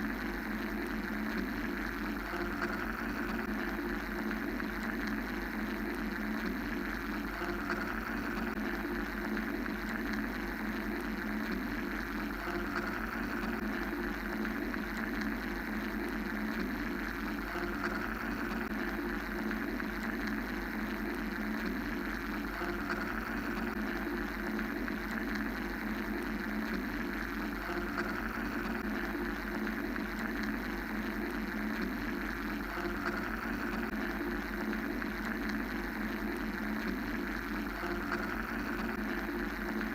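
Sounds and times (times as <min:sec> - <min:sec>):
dense white noise hiss: 0:00.0 - 0:39.9
low mechanical hum: 0:00.0 - 0:39.9.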